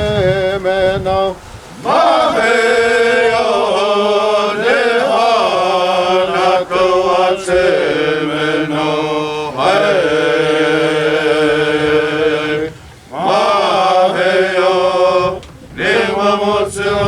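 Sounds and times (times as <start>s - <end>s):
person singing chant-like prayer: 0.0s - 17.0s.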